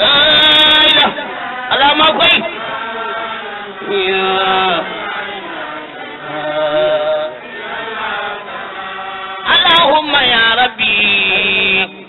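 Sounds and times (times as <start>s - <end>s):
voices chanting held notes: 0.0s - 12.0s.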